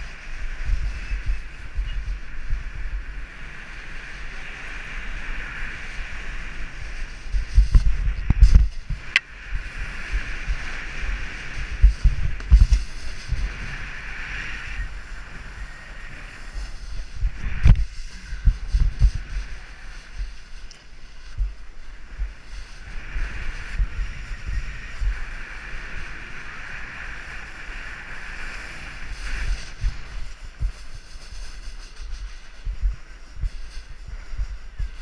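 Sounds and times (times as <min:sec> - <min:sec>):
snowboard sliding over snow: 0:00.0 - 0:35.0
wind buffeting microphone: 0:00.0 - 0:35.0.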